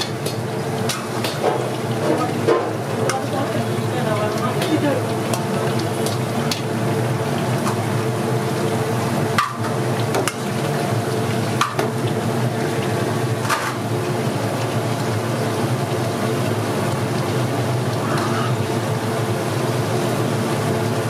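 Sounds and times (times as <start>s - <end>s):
sizzling and stirring: 0.0s - 21.0s.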